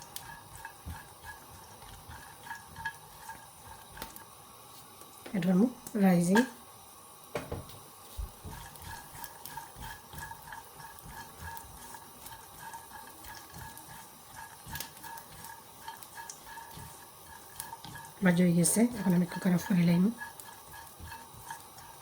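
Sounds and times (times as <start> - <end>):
spoon scraping a pan: 0.0 - 5.5, 8.0 - 22.0
nuts frying: 0.0 - 22.0.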